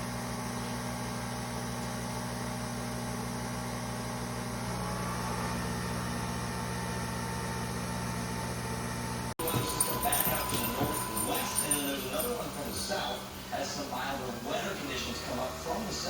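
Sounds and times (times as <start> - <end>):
coffee machine motor and pump hum: 0.0 - 16.0.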